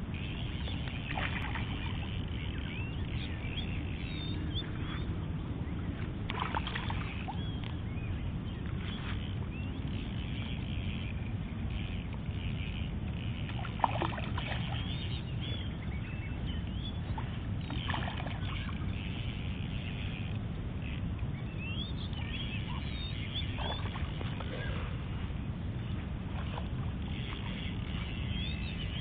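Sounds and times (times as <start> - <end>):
birds chirping: 0.0 - 29.0
wind rumble on microphone: 0.0 - 29.0.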